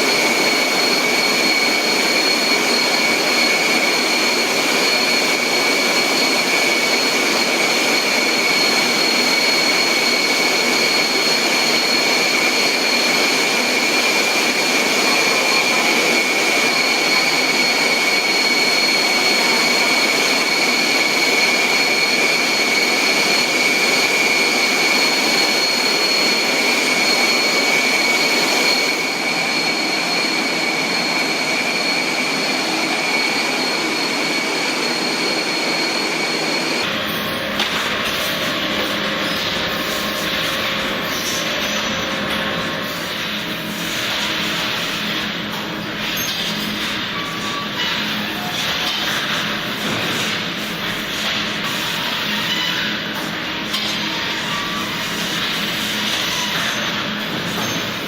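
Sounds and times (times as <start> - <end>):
high-pitched machine whine: 0.0 - 58.0.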